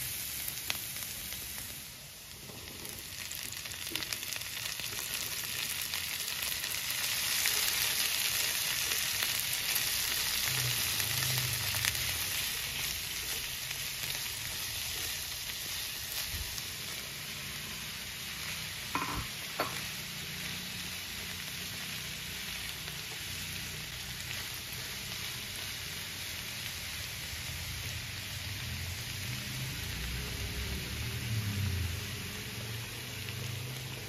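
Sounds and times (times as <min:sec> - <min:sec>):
vegetables sizzling in frying pan: 0:00.0 - 0:34.0.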